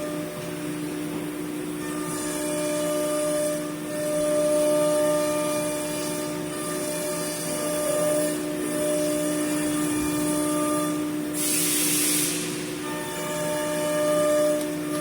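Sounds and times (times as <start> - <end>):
woodworking machine whine: 0.0 - 15.0.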